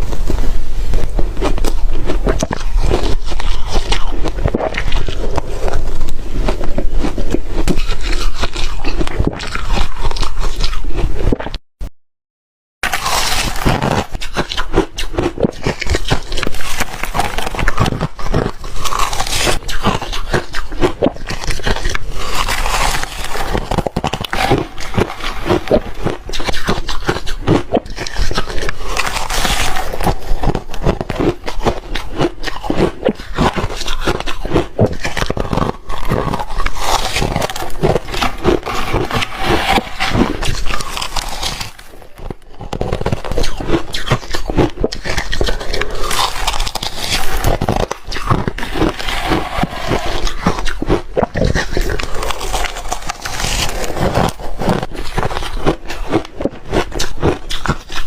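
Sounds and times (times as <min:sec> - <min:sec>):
chewing ice crunches: 0:00.0 - 0:11.6, 0:12.8 - 0:58.0
mouth noises scraping: 0:00.0 - 0:11.6, 0:12.8 - 0:58.0.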